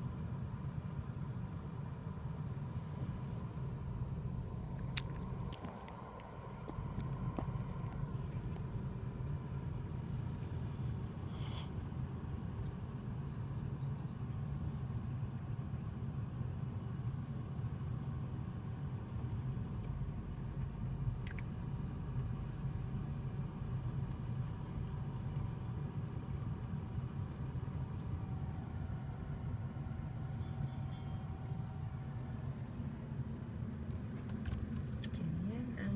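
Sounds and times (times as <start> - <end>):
car rumble while driving: 0.0 - 35.9.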